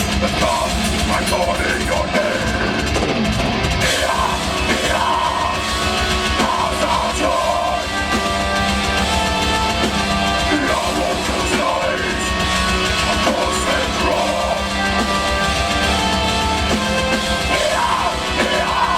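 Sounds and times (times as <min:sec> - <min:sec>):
distorted guitars: 0:00.0 - 0:18.9
drum kit: 0:00.0 - 0:18.9
vocals: 0:00.0 - 0:18.9.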